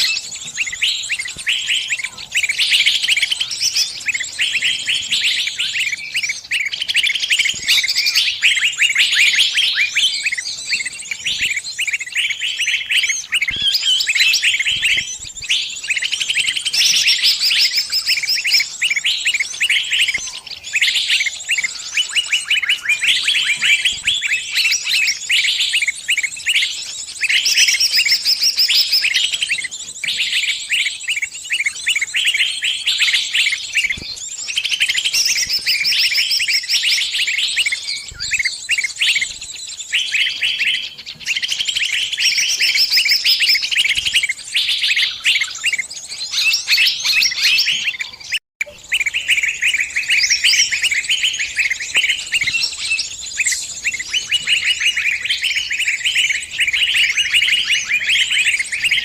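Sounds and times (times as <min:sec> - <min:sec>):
small birds chirping rapidly: 0:00.0 - 0:59.0.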